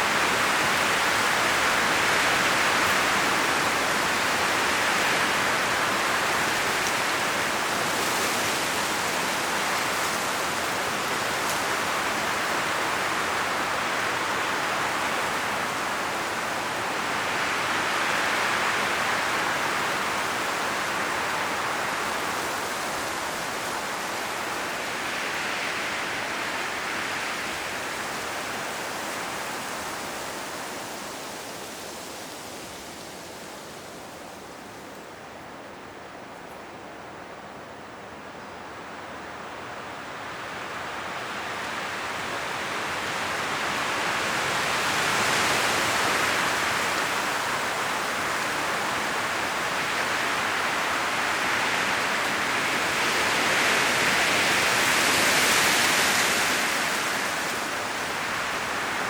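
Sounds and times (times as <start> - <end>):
wind rushing through leaves: 0.0 - 59.0.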